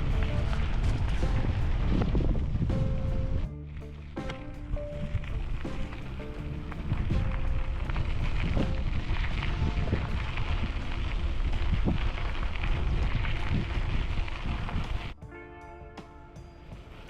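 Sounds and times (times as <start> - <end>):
wind buffeting microphone: 0.0 - 15.2
faint music notes: 0.0 - 17.0.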